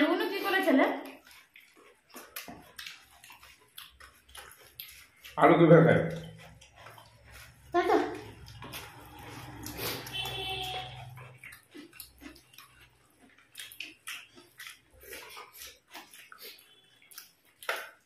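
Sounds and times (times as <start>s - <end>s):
wet chewing and lip-smacking: 0.0s - 18.0s
fingers squishing rice: 1.0s - 18.0s.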